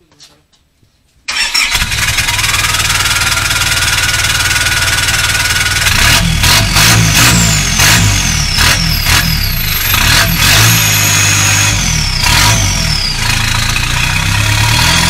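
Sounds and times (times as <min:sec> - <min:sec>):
diesel engine cranking and idling: 0:01.3 - 0:15.0.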